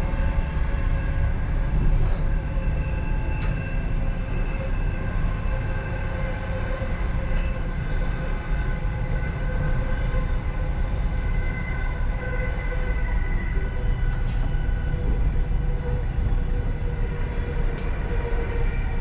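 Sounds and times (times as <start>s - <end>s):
steady train whine: 0.0s - 19.0s
train wheels rumbling on rails: 0.0s - 19.0s.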